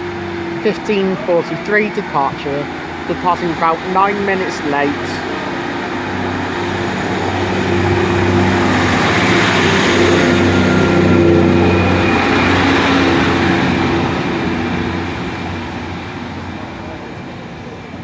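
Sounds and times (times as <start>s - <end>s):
diesel train accelerating: 0.0s - 18.0s.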